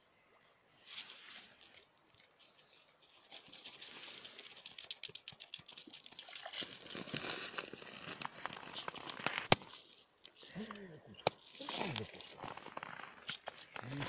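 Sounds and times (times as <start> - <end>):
clicking and crackling on ice: 1.6 - 14.0.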